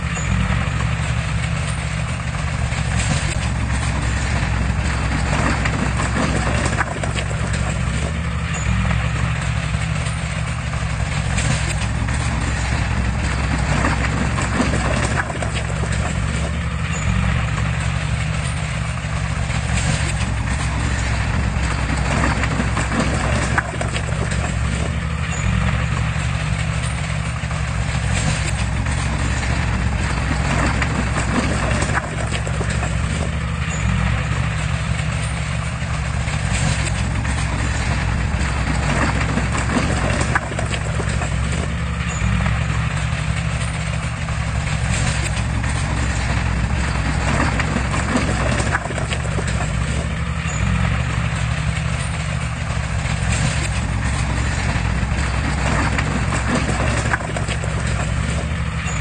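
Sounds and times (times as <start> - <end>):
diesel engine running: 0.0 - 59.0
knocking clatter: 0.0 - 59.0.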